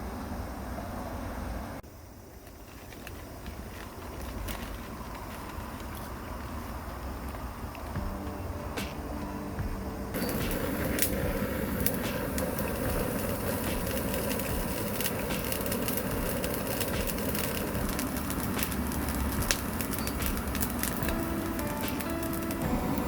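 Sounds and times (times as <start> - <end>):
bonfire crackling and popping: 2.3 - 23.0
bonfire rushing noise: 2.6 - 23.0.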